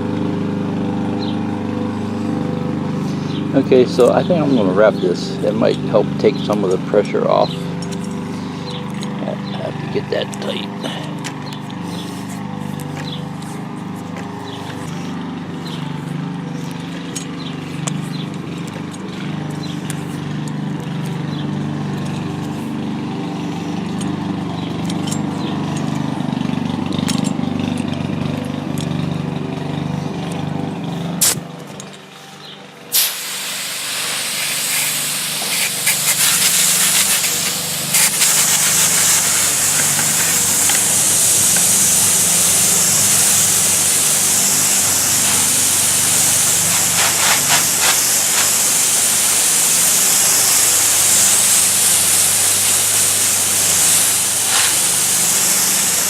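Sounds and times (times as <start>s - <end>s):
garden hose spraying water: 0.0s - 56.0s.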